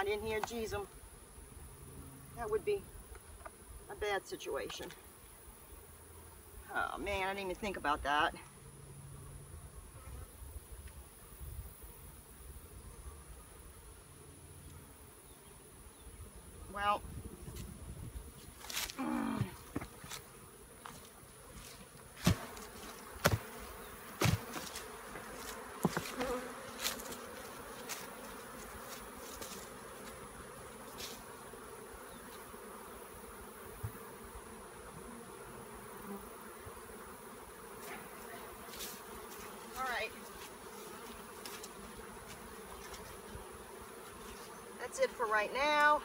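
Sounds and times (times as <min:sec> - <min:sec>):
bees buzzing: 0:00.0 - 0:46.0.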